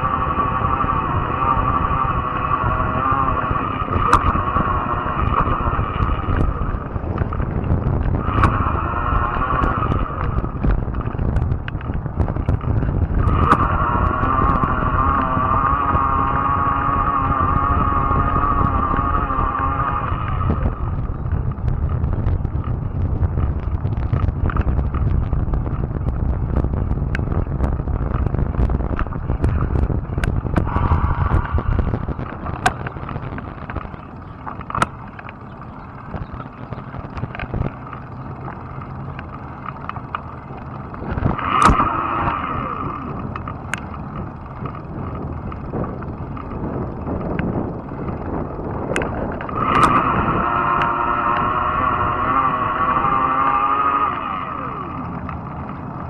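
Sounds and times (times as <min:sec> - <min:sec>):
bike clicks and rattles: 0:00.0 - 0:56.0
tyre and wind rumble: 0:00.0 - 0:56.0.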